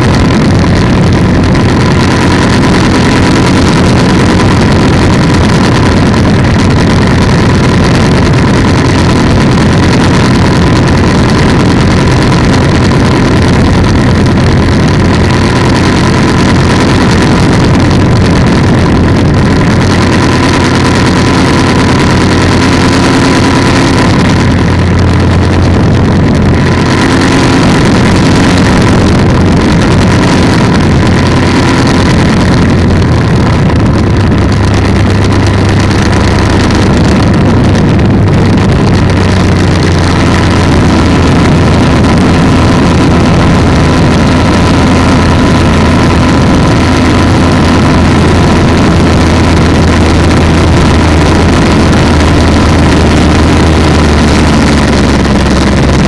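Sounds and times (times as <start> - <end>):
two-stroke engine running: 0.0 - 56.0.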